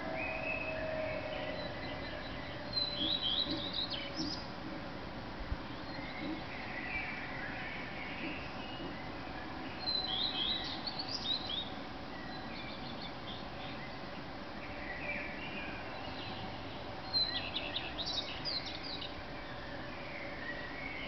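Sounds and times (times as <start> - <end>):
bird singing high phrases: 0.0 - 4.5, 5.8 - 14.0, 14.6 - 21.0
distant bird song: 0.0 - 21.0
faint background noise: 0.0 - 21.0.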